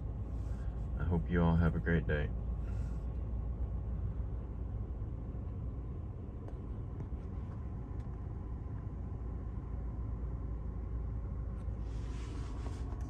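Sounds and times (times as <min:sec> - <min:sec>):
faint steady tone: 0:00.0 - 0:13.0
vehicle idling: 0:00.0 - 0:13.0.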